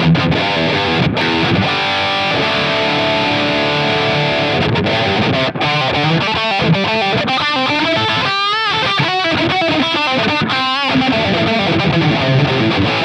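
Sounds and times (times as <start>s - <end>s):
overdriven electric guitar: 0.0s - 13.0s.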